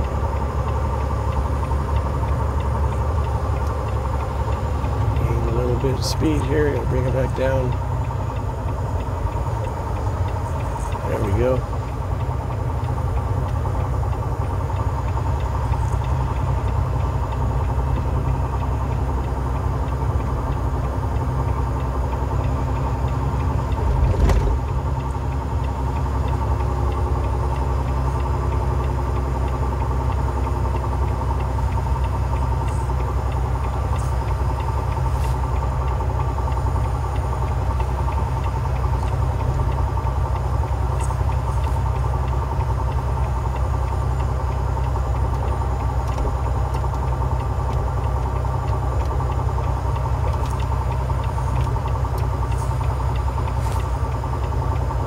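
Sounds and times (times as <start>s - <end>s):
diesel truck engine drone: 0.0s - 55.0s.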